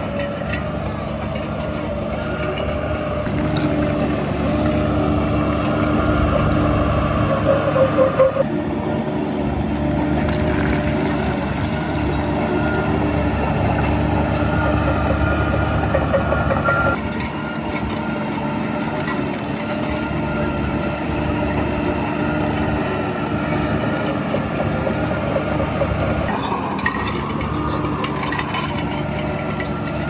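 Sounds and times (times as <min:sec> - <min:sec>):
heavy diesel machinery engine: 0:00.0 - 0:30.0.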